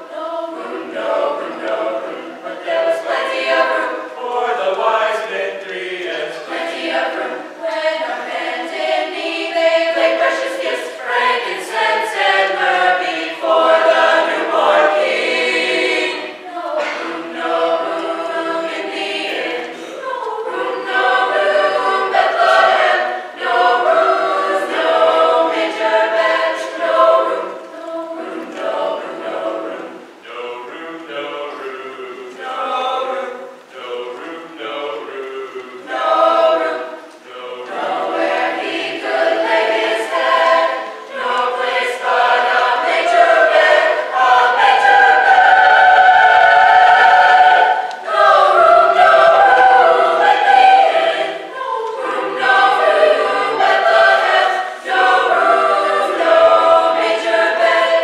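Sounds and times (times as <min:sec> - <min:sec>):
girls' choir singing: 0:00.0 - 0:58.0.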